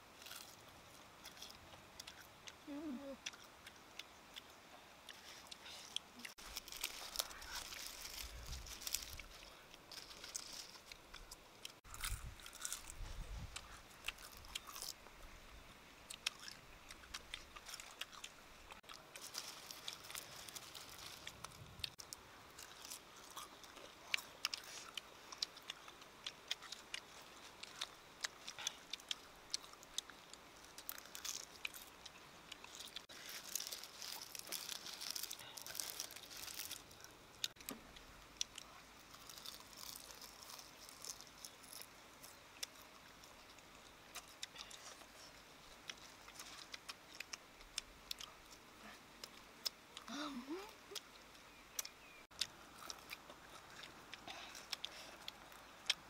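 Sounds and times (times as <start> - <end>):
small crackles: 0.0 - 15.4, 16.0 - 56.0
chewing: 0.2 - 15.0, 16.1 - 56.0.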